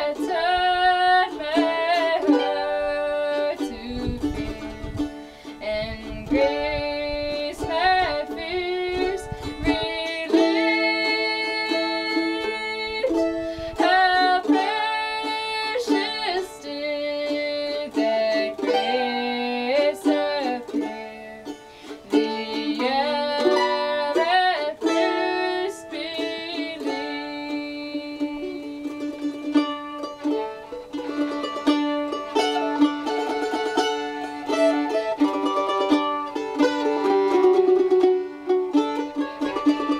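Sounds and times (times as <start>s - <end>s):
girl singing: 0.0s - 39.9s
mandolin picking: 0.0s - 39.9s.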